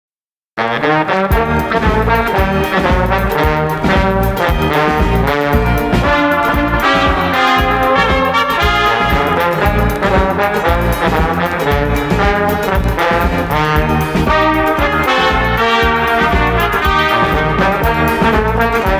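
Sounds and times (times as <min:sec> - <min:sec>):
brass band march: 0:00.6 - 0:18.9.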